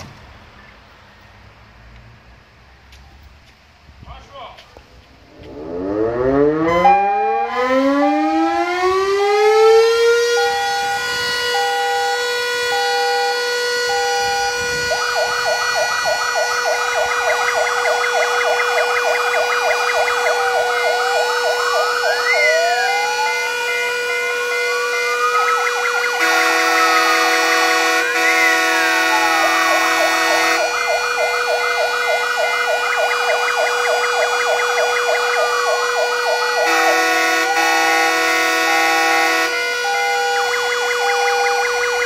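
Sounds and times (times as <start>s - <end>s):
civil defence siren steady tone: 5.2s - 42.0s
fire engine siren warbling: 5.2s - 42.0s.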